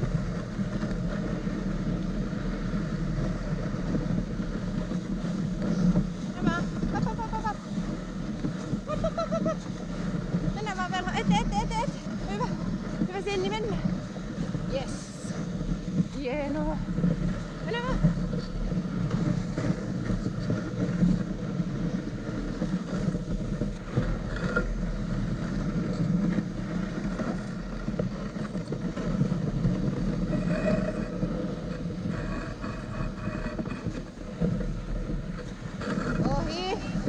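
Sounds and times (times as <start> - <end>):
sled gliding over snow: 0.0 - 37.0
wind buffeting microphone: 0.0 - 37.0.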